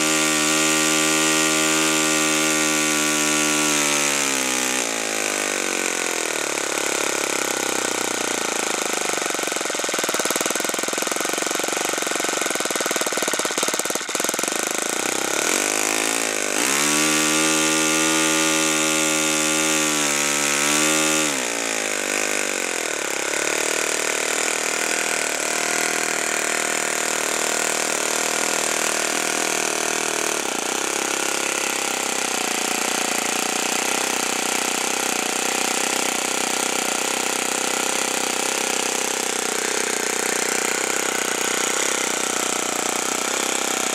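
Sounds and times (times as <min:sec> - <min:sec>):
model airplane engine running: 0:00.0 - 0:43.9.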